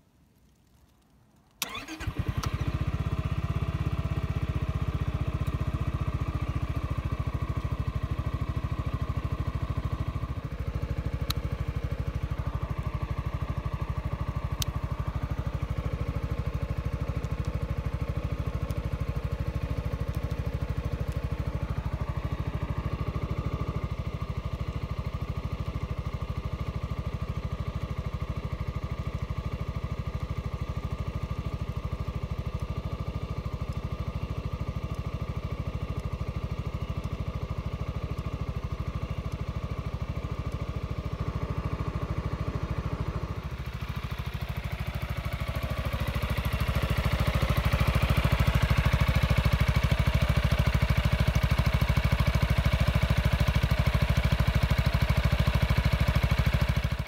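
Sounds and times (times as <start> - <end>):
scooter engine starting and idling: 1.6 - 57.0.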